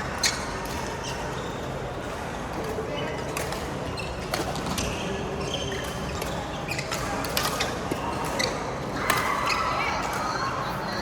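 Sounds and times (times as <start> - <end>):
court shoes squeaking: 0.0 - 1.9, 2.6 - 11.0.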